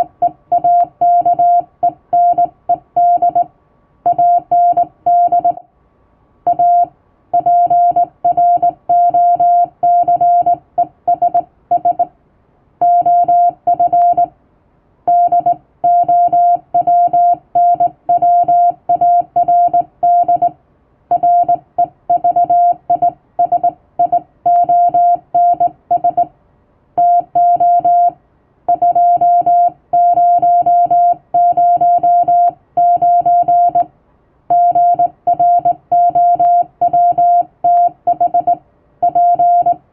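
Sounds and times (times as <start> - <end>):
morse code beeps: 0.0 - 3.5, 4.1 - 5.6, 6.5 - 12.1, 12.8 - 14.3, 15.1 - 26.3, 27.0 - 33.9, 34.5 - 39.8.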